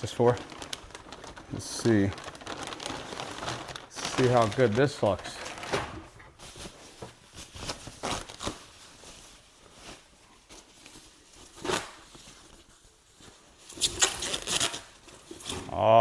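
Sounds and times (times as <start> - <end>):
packaging rustling and tearing: 0.0 - 15.7.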